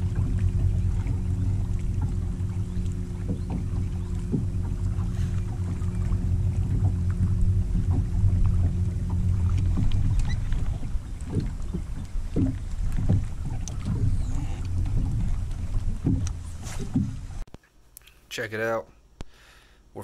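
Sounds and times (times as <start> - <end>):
electric boat motor humming: 0.0 - 17.5
low thumps: 0.0 - 17.5.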